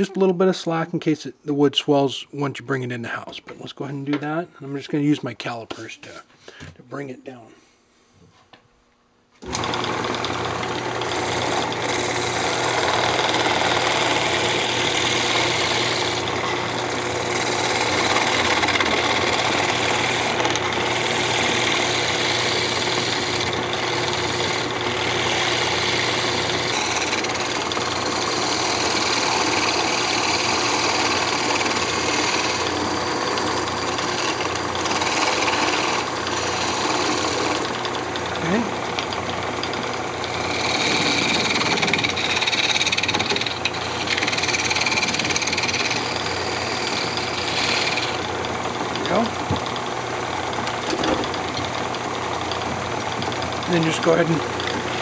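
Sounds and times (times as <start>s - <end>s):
wood lathe running: 9.4s - 55.0s.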